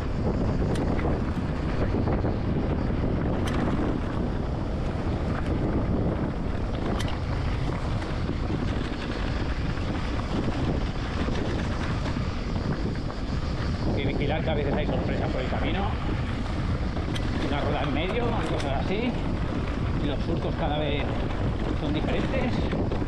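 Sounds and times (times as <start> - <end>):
bike tyre rumble on dirt: 0.0 - 23.0
wind buffeting microphone: 0.0 - 23.0.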